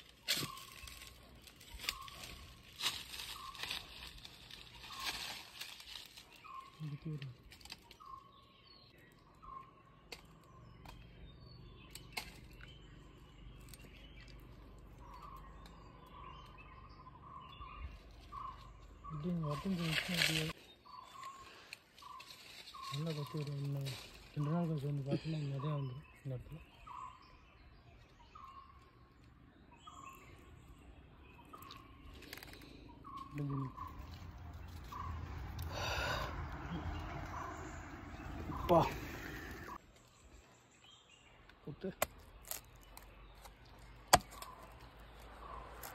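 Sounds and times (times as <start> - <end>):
faint bird chirps: 0.0 - 41.9.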